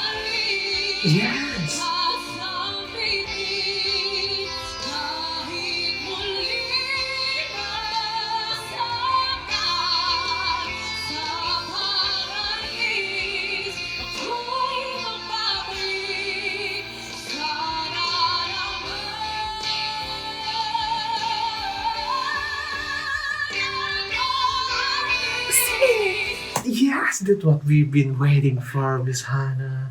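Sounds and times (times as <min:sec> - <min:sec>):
woman singing a ballad: 0:00.0 - 0:26.6.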